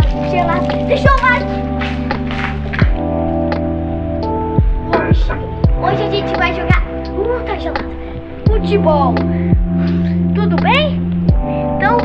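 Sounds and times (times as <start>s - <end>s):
low beat thumps: 0.0s - 11.5s
held music chords: 0.0s - 12.0s.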